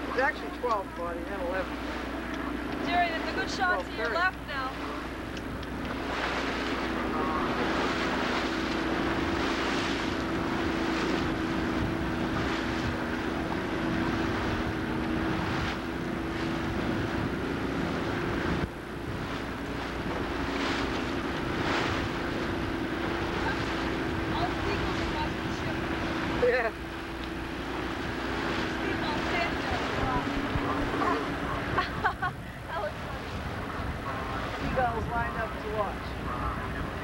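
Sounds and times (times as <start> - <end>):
motorboat engine droning: 0.0 - 37.0
water rushing along hull: 0.0 - 37.0
wind on microphone: 1.8 - 37.0.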